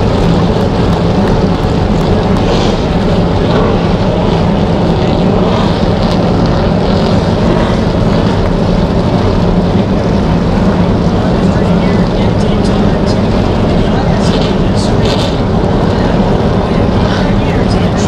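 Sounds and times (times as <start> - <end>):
stock car engines droning: 0.0 - 18.0.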